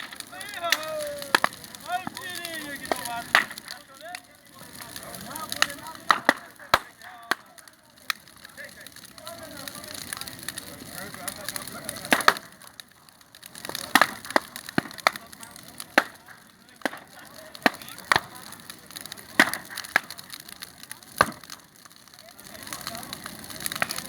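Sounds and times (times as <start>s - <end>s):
bonfire crackling and popping: 0.0s - 24.0s
low fire hiss: 0.0s - 24.0s.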